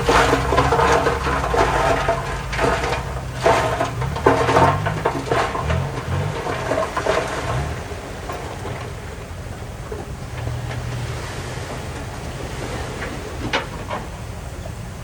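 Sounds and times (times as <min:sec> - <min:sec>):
heavy machinery diesel engines: 0:00.0 - 0:15.0.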